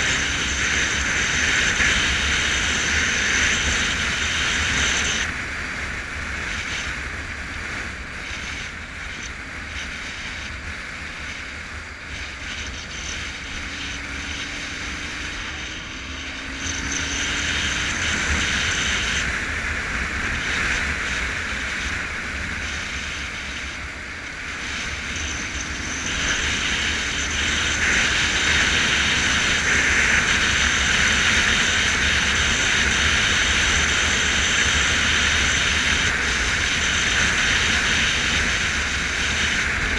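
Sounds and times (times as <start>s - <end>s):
motorcycle engine: 0.0s - 39.9s
wind roaring over camera: 0.0s - 39.9s.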